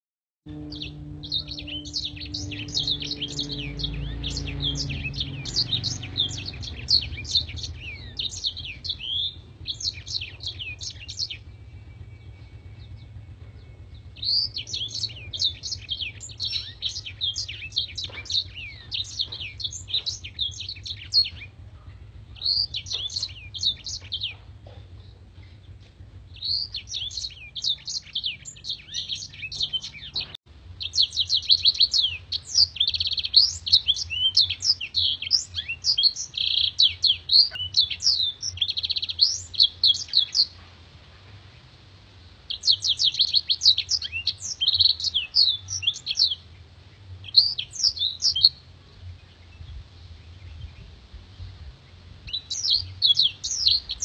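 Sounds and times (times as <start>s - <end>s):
canary singing high twittering: 0.5s - 40.6s, 42.4s - 48.6s, 52.2s - 54.0s
faint low hum: 0.5s - 54.0s.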